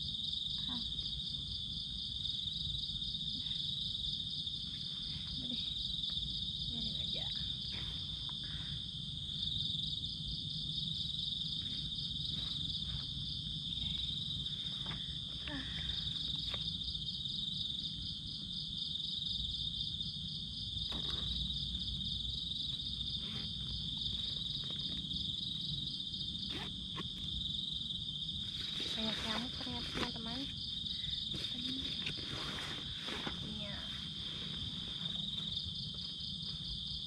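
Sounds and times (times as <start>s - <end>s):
insects buzzing: 0.0s - 37.0s.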